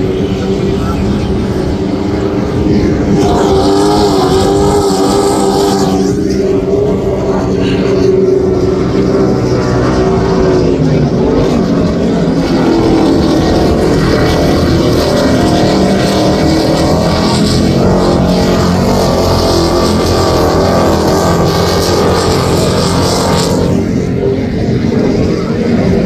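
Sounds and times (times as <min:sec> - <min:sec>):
powerboat engines at high speed: 0:00.0 - 0:26.0.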